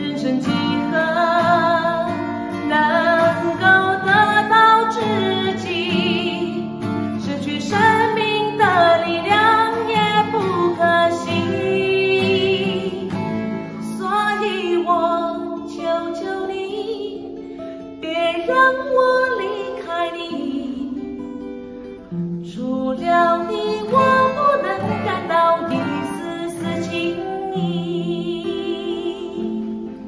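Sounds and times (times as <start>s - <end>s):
woman singing: 0.0s - 21.3s, 22.4s - 30.0s
strummed acoustic guitar: 0.0s - 30.0s.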